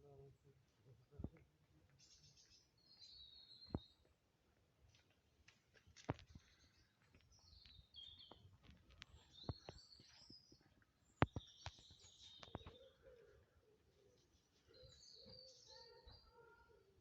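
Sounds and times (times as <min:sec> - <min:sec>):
faint outdoor hush: 0:00.0 - 0:17.0
songbirds chirping: 0:00.0 - 0:17.0.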